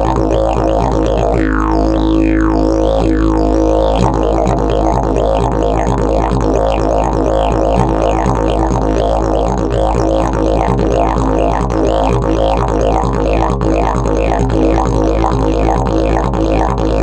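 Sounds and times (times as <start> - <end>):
didgeridoo drone: 0.0 - 17.0.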